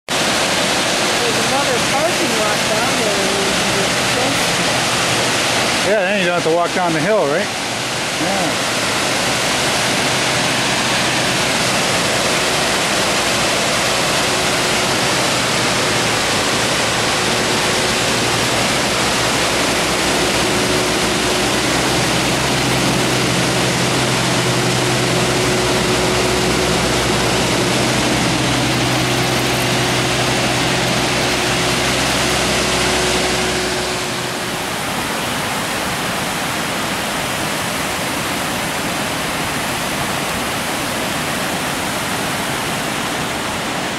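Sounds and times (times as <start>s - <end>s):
water spilling over rock ledge: 0.1s - 43.9s
waterfall roaring: 0.1s - 43.9s.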